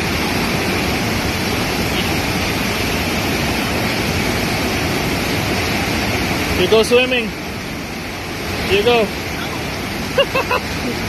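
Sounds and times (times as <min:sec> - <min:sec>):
whitewater rushing over boulders: 0:00.0 - 0:11.0.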